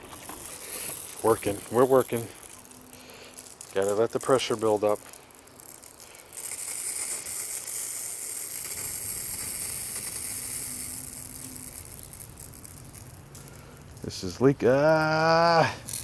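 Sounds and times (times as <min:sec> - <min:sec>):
sprinkler hissing and spraying: 0:00.0 - 0:16.0.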